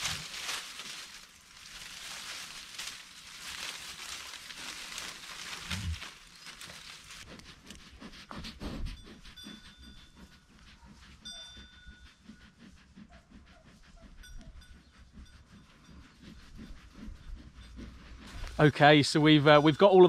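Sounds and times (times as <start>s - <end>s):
sheep chewing: 0.0s - 18.7s.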